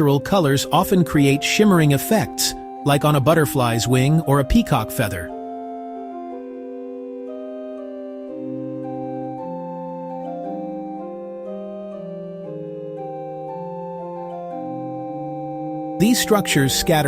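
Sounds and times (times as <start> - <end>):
slow organ-like keyboard chords: 0.0 - 17.0.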